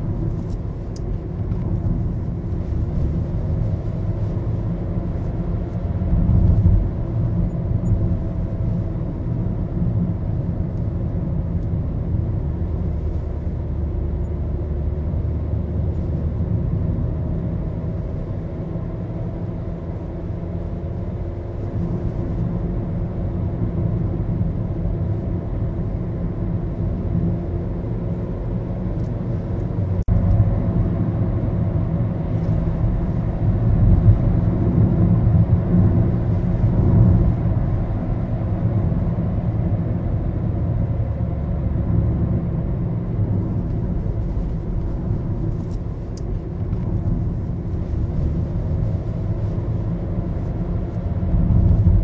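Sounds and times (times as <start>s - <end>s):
engine and road noise in car: 0.0s - 52.0s.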